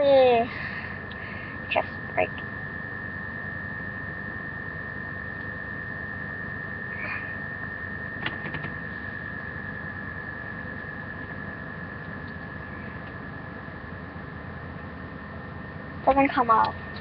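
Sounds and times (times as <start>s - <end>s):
high whine: 0.0s - 17.0s.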